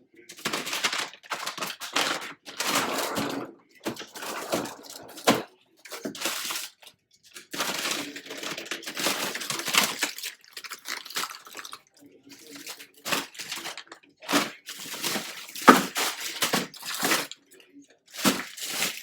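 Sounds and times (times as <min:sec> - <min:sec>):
plastic packaging rustling: 0:00.3 - 0:17.4, 0:18.1 - 0:19.0.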